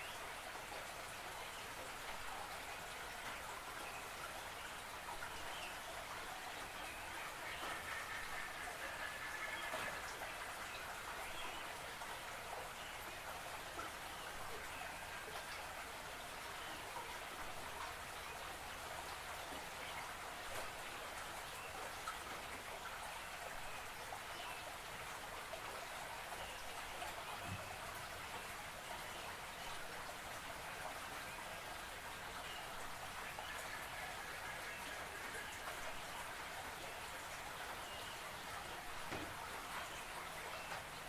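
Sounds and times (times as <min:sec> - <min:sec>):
water patter and trickle: 0:00.0 - 0:41.0.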